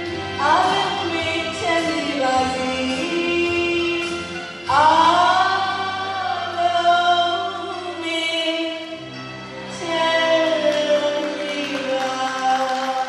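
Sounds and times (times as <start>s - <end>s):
woman singing into microphone: 0.3s - 13.0s.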